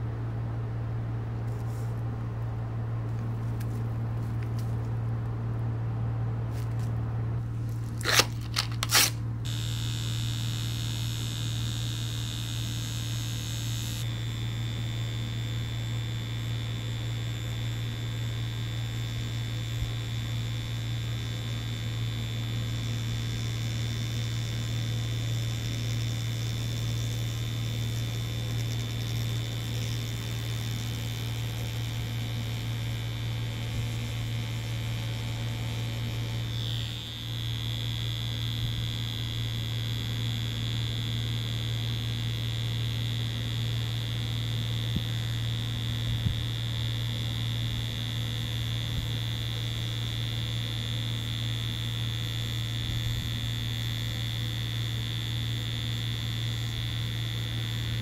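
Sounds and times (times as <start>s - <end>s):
higher-pitched buzz: 8.0s - 58.0s
tattoo machine buzzing: 8.0s - 58.0s.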